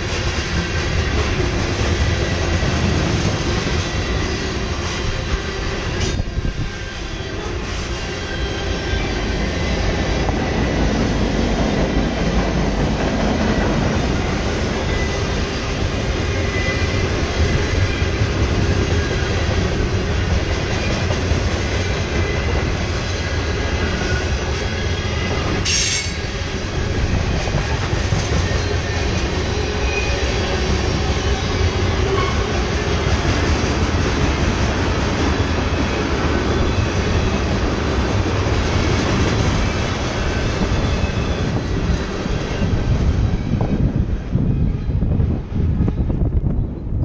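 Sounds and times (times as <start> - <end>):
train wheels rumbling and clattering: 0.0 - 47.0.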